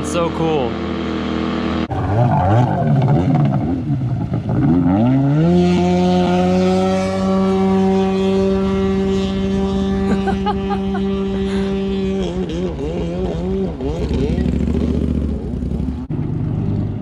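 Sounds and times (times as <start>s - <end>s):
watercraft engine revving: 1.0s - 17.0s.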